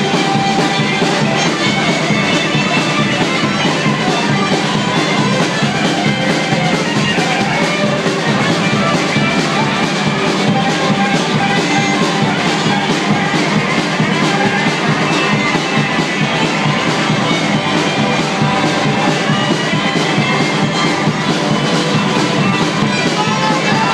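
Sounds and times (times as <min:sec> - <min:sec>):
drum kit beat: 0:00.0 - 0:23.9
electric guitars: 0:00.0 - 0:23.9
fiddle: 0:00.0 - 0:23.9
rock band playing live: 0:00.0 - 0:23.9
trumpet: 0:00.0 - 0:23.9.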